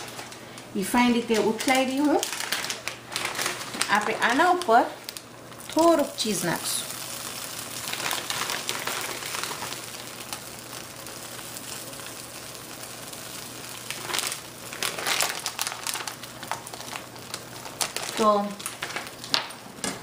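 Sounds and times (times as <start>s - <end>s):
plastic bag rustling: 0.0s - 19.6s
quesadillas sizzling in a pan: 0.0s - 20.0s.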